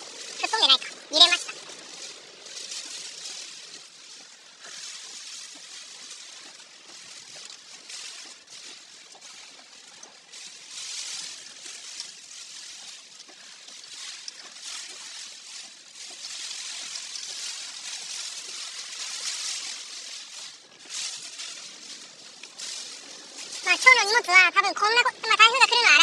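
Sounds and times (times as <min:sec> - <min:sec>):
wind and rain rushing hiss: 0:00.0 - 0:25.9.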